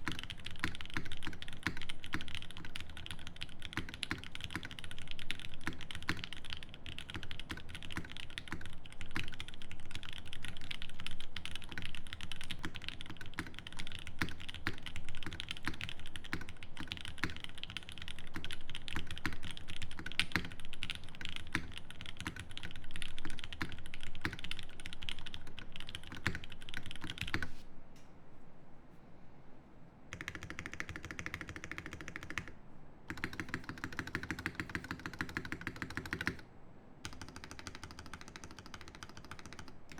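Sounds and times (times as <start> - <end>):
fast typing on mechanical keyboard: 0.0 - 27.5, 30.1 - 32.5, 33.1 - 36.4, 37.0 - 39.9.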